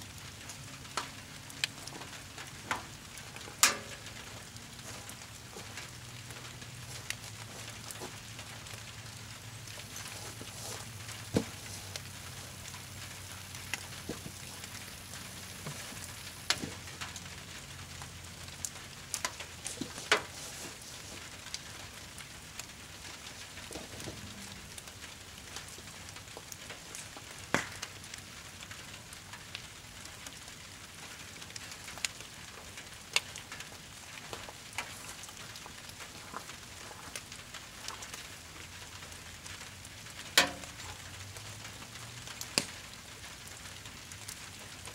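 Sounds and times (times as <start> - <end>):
campfire crackling and popping: 0.0 - 44.9
light rain hissing: 0.0 - 44.9.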